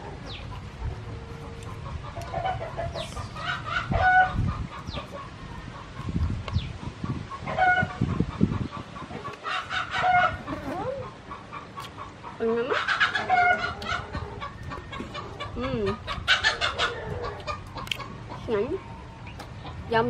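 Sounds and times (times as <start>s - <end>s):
chickens clucking and crowing: 0.0s - 20.0s.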